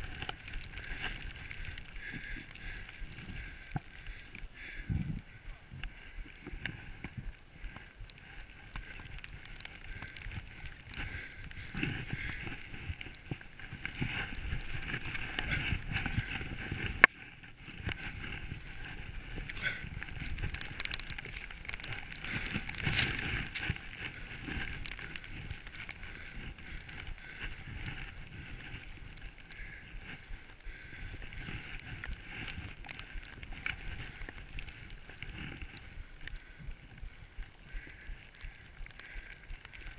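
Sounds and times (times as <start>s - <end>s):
wind rushing over microphone: 4.6s - 38.1s.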